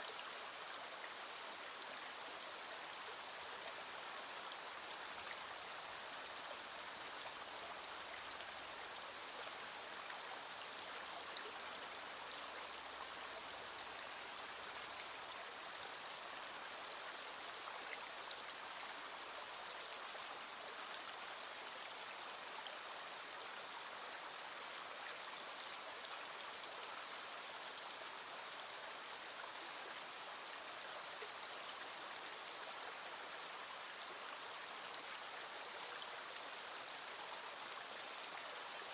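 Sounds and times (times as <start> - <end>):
small stream flowing: 0.0 - 38.9.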